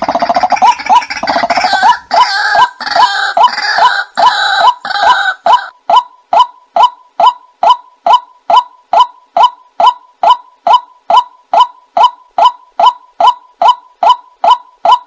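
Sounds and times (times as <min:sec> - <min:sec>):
chorus of overlapping bird calls: 0:00.0 - 0:15.0.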